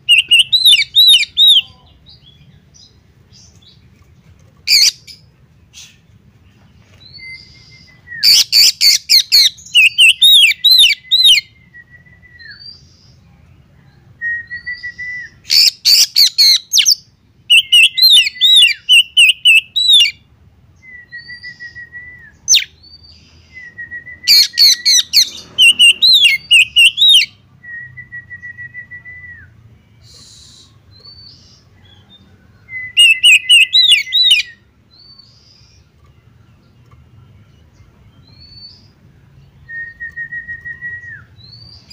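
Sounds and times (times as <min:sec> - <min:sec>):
bird singing whistled notes: 0:00.0 - 0:03.8, 0:07.0 - 0:13.2, 0:13.9 - 0:20.2, 0:20.8 - 0:41.9.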